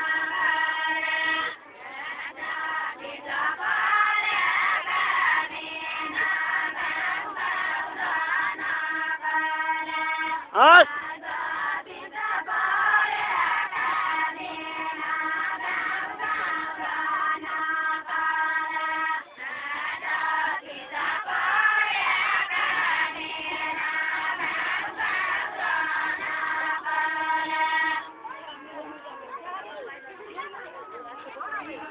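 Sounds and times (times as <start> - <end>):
women singing folk song: 0.0 - 28.2.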